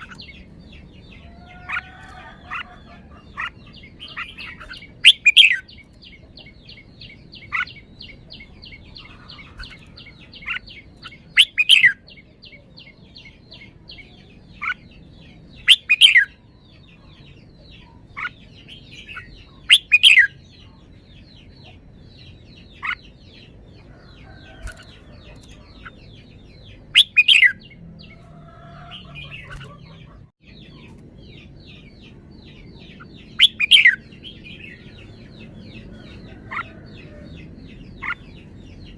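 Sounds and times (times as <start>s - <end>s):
birds twittering: 0.0s - 38.9s
bulbul singing: 0.0s - 38.9s.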